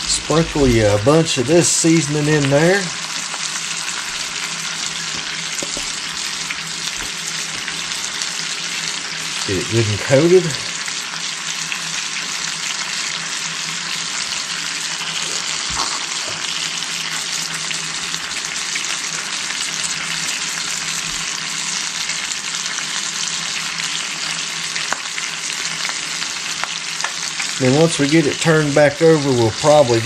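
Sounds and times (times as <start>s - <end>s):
chicken sizzling in skillet: 0.0s - 30.0s.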